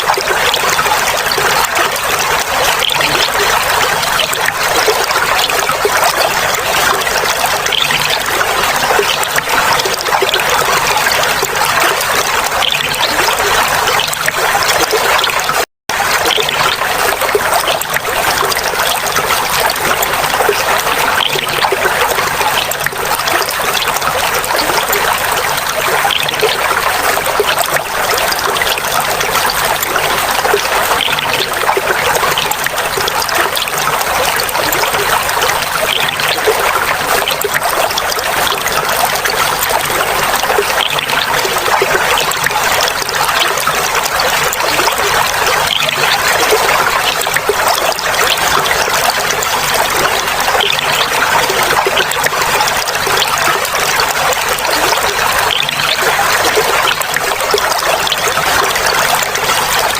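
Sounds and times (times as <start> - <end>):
water trickling over stones: 0.0 - 59.9.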